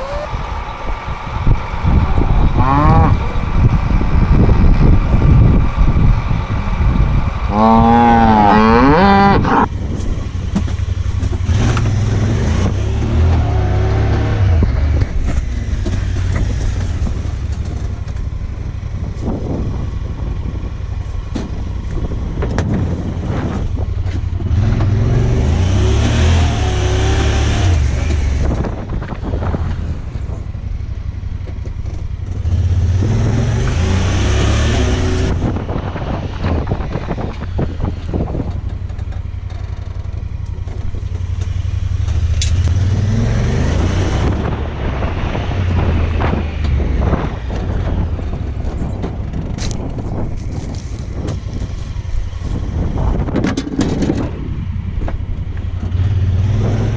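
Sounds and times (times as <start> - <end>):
engine running and revving: 0.0 - 56.9.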